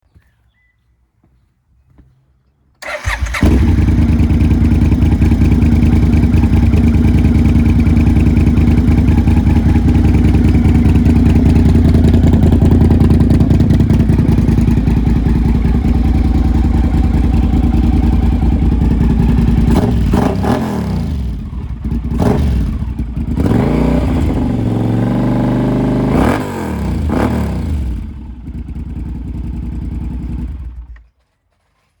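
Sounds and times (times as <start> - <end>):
motorcycle engine idling and revving: 2.8 - 31.2.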